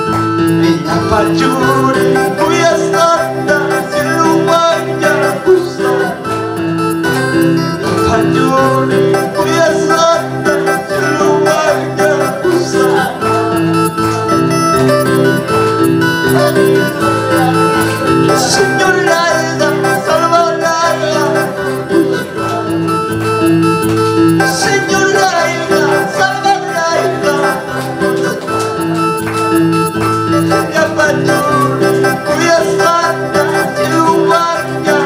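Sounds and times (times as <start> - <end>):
electronic keyboard worship music: 0.0 - 35.0
man singing: 0.4 - 23.5, 24.2 - 29.1, 30.2 - 35.0.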